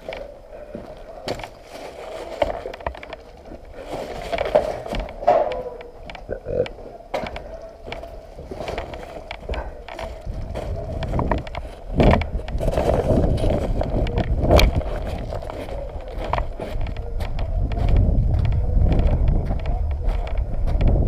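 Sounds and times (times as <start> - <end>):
rumbling handling noise: 0.0 - 21.0.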